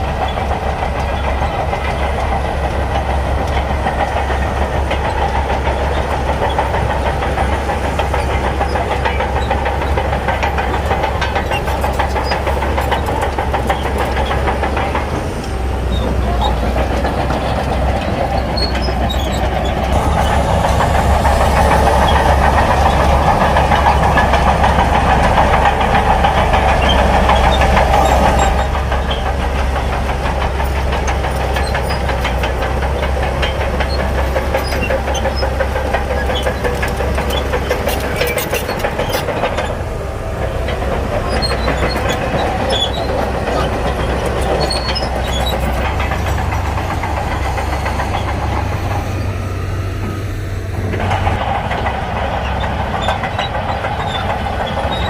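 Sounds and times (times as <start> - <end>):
bulldozer diesel engine: 0.0 - 55.0
tracks rattling: 0.0 - 55.0.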